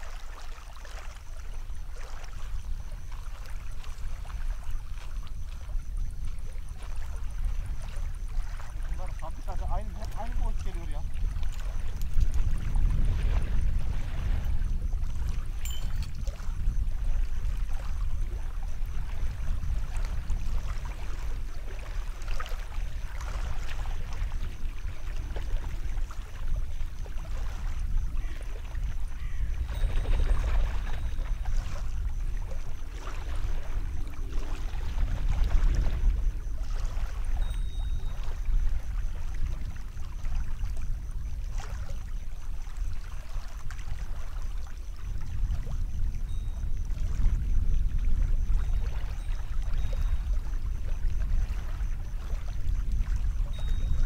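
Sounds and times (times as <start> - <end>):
shallow water sloshing: 0.0 - 54.0.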